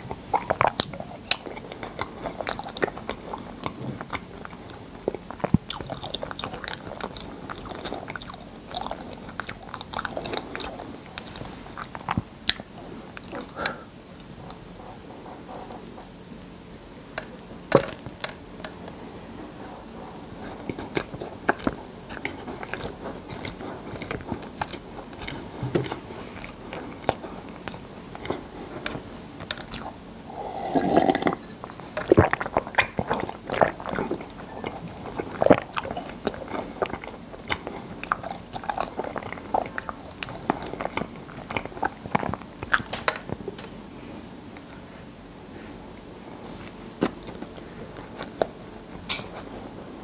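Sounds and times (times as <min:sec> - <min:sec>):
chewing sticky bread: 0:00.0 - 0:43.9, 0:45.8 - 0:50.0.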